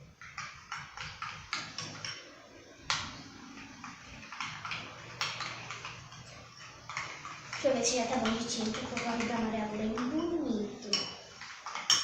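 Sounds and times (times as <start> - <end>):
slime stirring clicks and taps: 0.2 - 2.2, 2.8 - 12.0.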